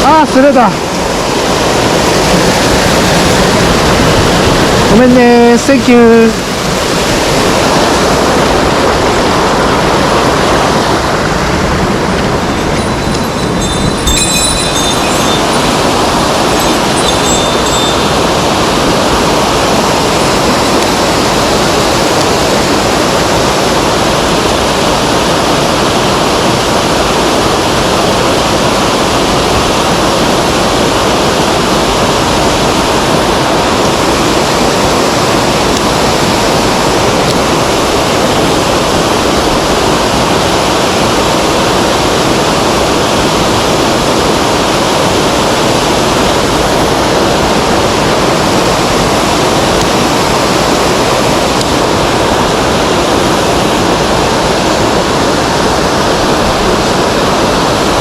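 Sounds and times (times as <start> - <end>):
fast stream water rushing: 0.0 - 58.0.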